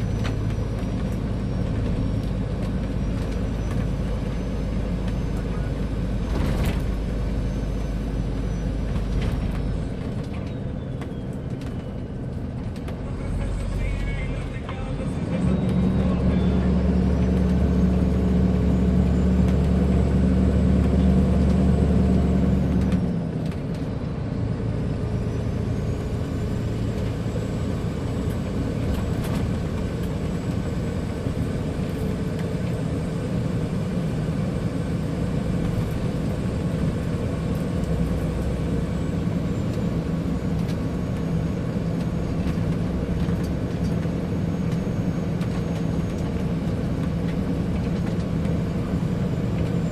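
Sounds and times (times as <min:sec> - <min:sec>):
truck diesel engine: 0:00.0 - 0:49.9.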